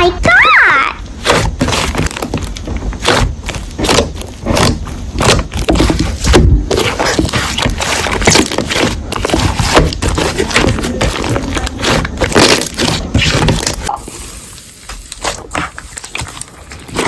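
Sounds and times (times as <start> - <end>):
slime squished by hand: 1.1 - 17.0.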